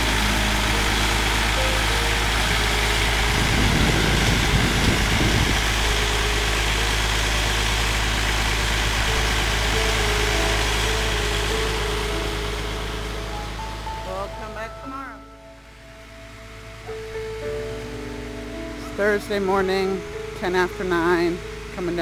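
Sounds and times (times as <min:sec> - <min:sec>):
pump engine humming: 0:00.0 - 0:22.0.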